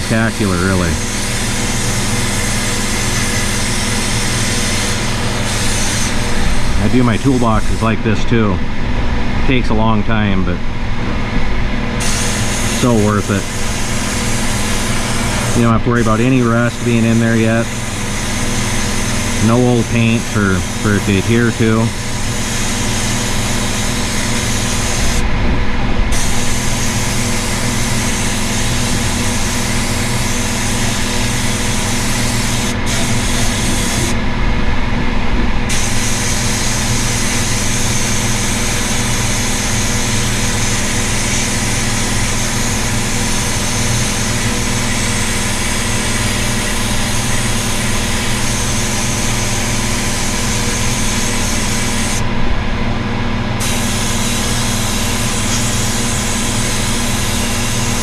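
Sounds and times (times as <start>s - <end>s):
motor hum: 0.0s - 58.0s
paint spray gun hissing: 0.1s - 8.0s, 12.0s - 25.2s, 26.1s - 34.2s, 35.7s - 52.3s, 53.6s - 58.0s.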